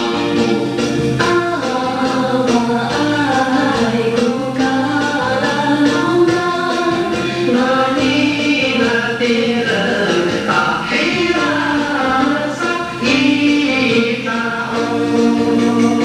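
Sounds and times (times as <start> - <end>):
song with singing and instruments: 0.0 - 16.0.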